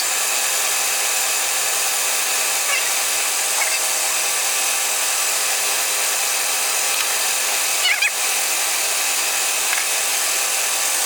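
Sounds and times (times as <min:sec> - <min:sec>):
power tool hissing: 0:00.0 - 0:11.0.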